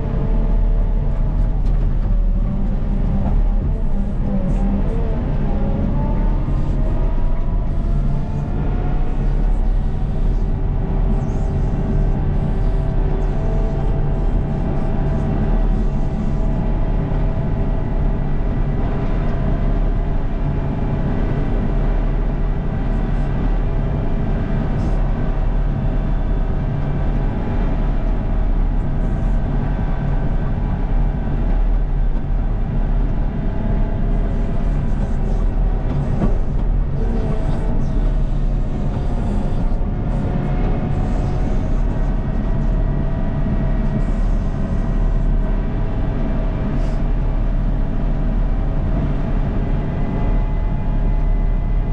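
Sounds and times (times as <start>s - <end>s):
diesel loader engine droning: 0.0s - 51.9s.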